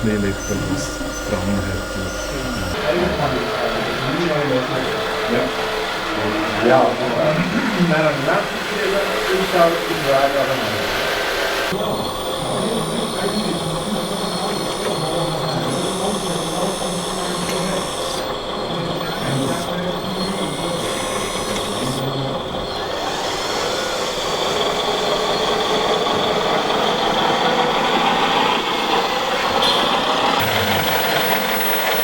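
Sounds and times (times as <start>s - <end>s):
model machines whirring with high whine: 0.0s - 32.0s.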